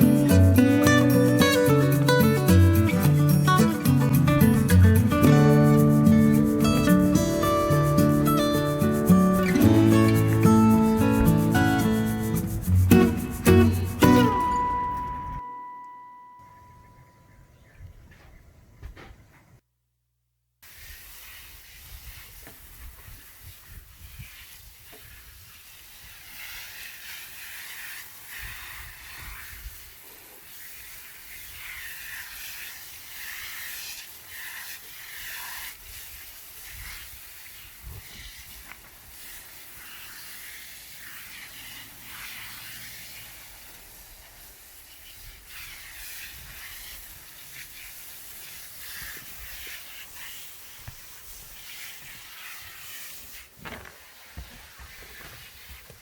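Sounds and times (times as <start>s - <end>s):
water spraying from hose: 0.0s - 14.9s, 20.6s - 56.0s.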